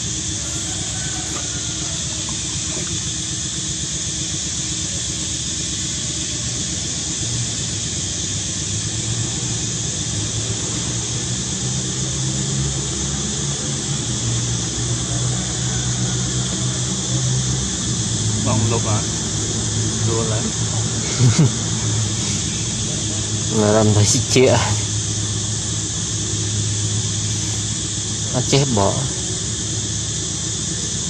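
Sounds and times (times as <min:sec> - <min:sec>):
high hiss: 0:00.0 - 0:31.0.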